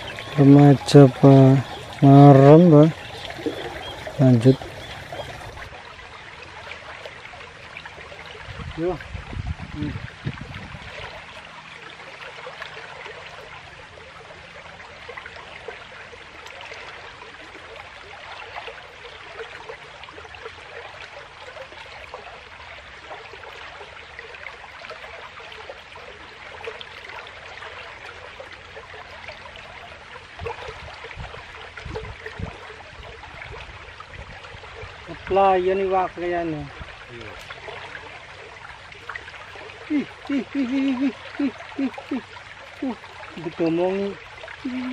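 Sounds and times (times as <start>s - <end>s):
creek water rushing over rocks: 0.0s - 44.9s.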